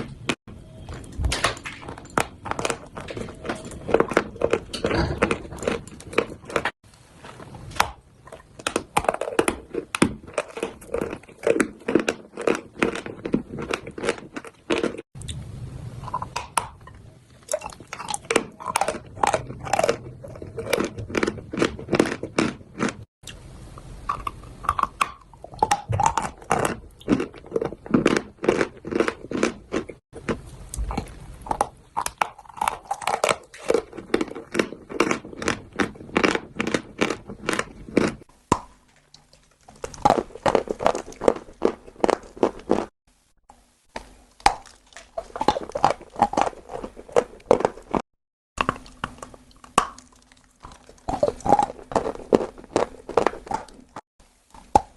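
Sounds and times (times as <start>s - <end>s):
crunching and chewing chalk: 0.0s - 15.4s, 17.4s - 23.4s, 24.1s - 43.0s, 43.9s - 48.0s, 48.6s - 54.9s.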